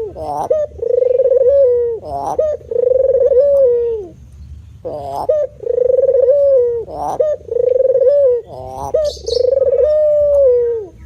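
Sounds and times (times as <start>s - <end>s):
dove cooing: 0.0s - 4.2s, 4.8s - 11.0s.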